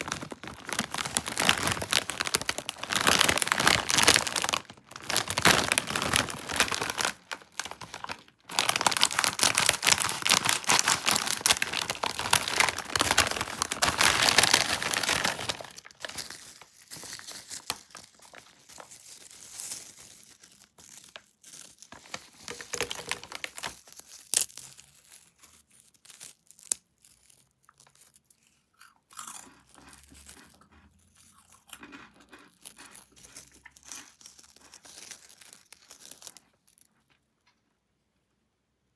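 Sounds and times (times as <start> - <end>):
snack package crackling: 0.0 - 30.6, 31.3 - 36.9.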